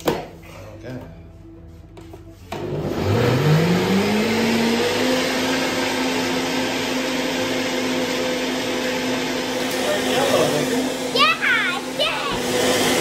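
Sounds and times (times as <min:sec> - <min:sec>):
blender running: 0:02.5 - 0:13.0.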